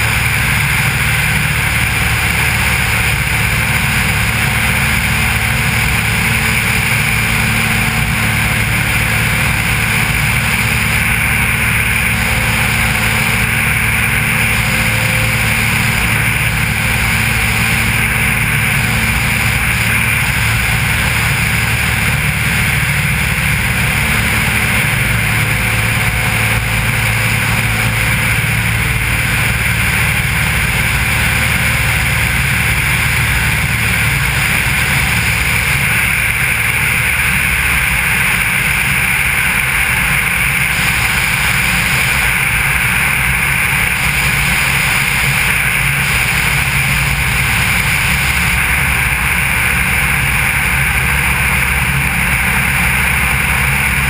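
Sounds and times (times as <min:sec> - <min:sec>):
propeller plane engine running: 0:00.0 - 0:54.0
rushing airflow: 0:00.0 - 0:54.0.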